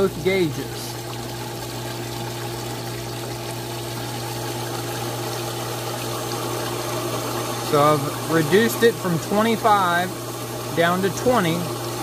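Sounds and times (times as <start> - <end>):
water pump humming: 0.0 - 12.0
water rushing through pipe: 0.0 - 12.0.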